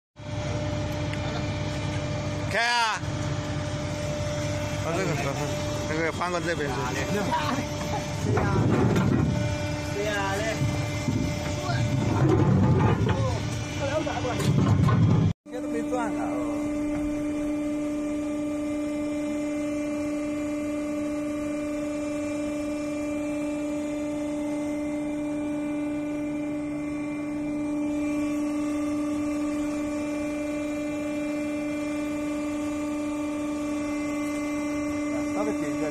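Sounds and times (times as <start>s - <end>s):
loader power unit humming: 0.2s - 35.9s.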